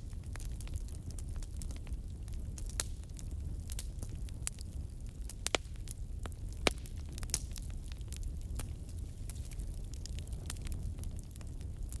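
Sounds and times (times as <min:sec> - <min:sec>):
bonfire crackling: 0:00.0 - 0:12.0
burning wood popping: 0:00.0 - 0:12.0.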